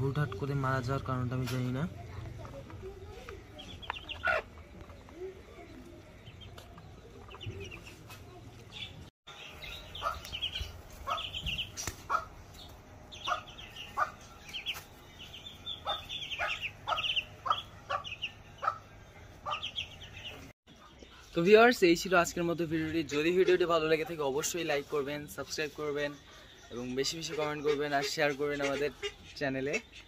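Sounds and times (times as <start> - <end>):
ducklings peeping: 2.4 - 30.0.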